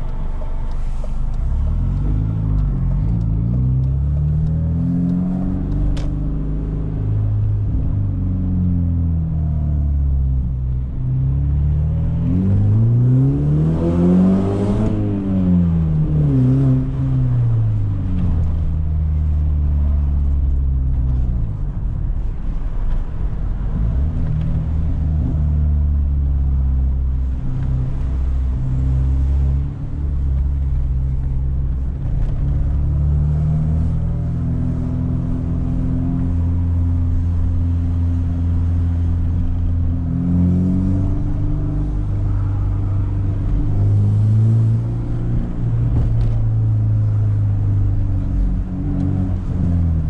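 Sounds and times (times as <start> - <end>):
car engine through loud exhaust: 0.0 - 50.0.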